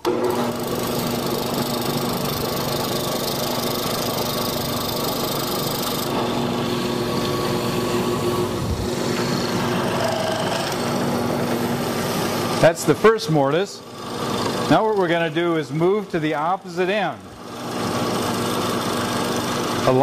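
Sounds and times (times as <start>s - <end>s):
mortising chisel boring into wood: 0.0s - 13.2s, 13.8s - 20.0s
drill press motor running: 0.0s - 20.0s.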